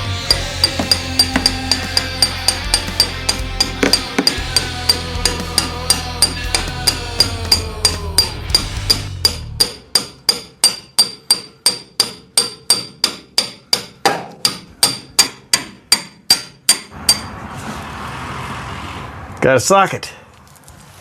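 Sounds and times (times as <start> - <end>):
hammer ringing on steel: 0.3 - 17.3.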